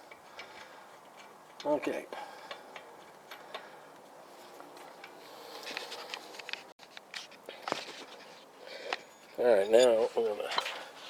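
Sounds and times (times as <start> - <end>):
lug nuts clicking and scraping: 0.0 - 11.0.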